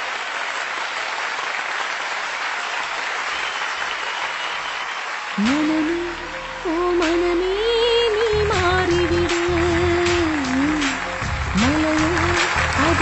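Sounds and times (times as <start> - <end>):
audience applauding: 0.0 - 6.5, 8.4 - 13.0.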